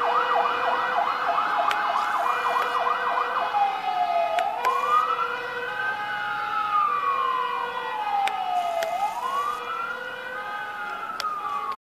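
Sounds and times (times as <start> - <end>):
fire engine siren wailing: 0.0 - 11.8.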